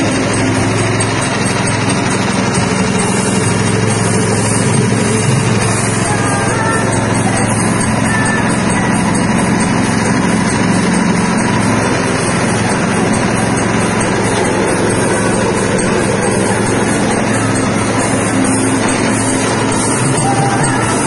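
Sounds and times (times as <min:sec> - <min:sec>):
machine mechanical drone: 0:00.0 - 0:21.0.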